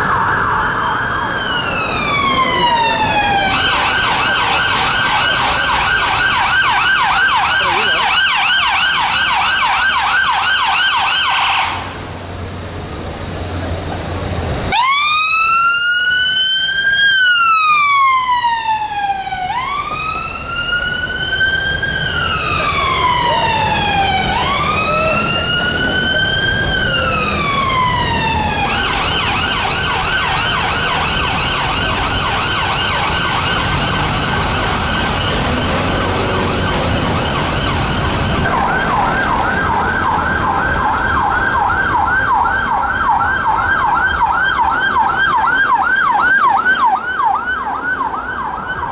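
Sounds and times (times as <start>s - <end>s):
police car siren yelping: 0.0s - 11.9s, 14.7s - 48.9s
ambulance siren wailing and yelping: 0.0s - 12.0s, 14.7s - 48.9s.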